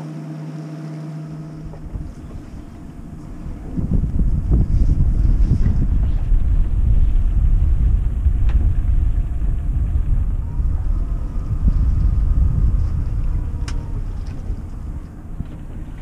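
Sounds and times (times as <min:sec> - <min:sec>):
wind buffeting microphone: 0:01.4 - 0:16.0.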